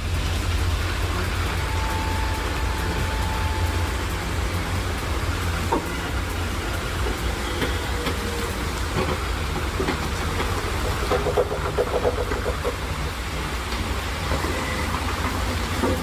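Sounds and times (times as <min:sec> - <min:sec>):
heavy machine rumbling: 0:00.0 - 0:16.0
knocks and clanks: 0:00.0 - 0:16.0.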